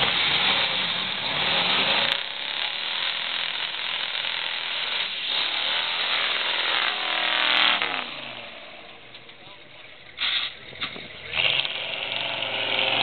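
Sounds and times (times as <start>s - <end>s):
truck engine revving high: 0.0s - 9.2s, 9.9s - 13.0s
tyres churning through mud: 0.0s - 13.0s.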